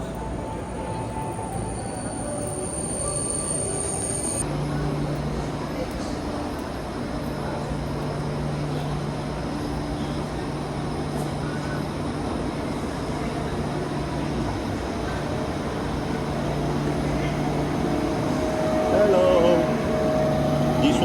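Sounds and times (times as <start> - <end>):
high-speed train humming: 0.0 - 21.0.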